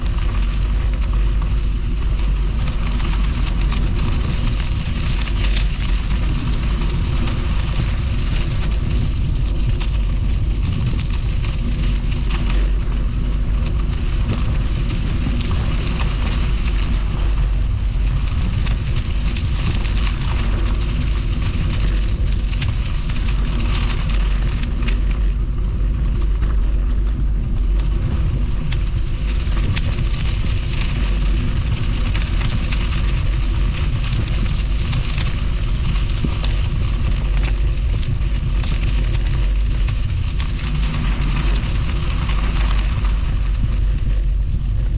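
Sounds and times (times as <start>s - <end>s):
tyres crackling on path: 0.0s - 44.9s
wind rumble on microphone: 0.0s - 44.9s.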